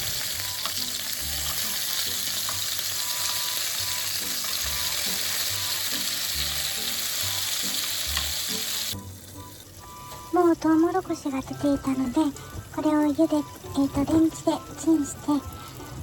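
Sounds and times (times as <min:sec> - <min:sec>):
eggplant sizzling in a pan: 0:00.0 - 0:16.0.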